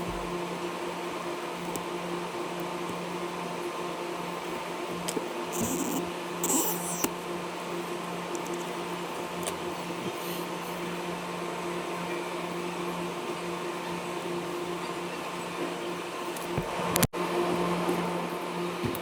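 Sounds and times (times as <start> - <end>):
fan motor humming: 0.0 - 19.0.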